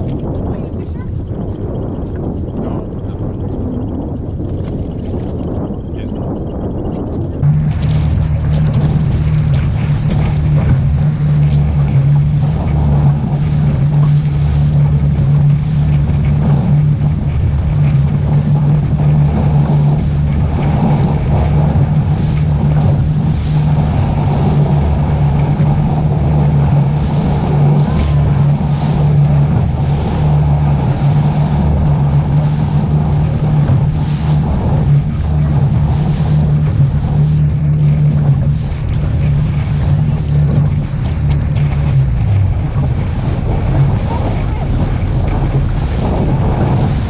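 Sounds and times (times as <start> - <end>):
outboard motor running: 0.0 - 47.0
water rushing along hull: 0.0 - 47.0
wind on microphone: 0.0 - 47.0.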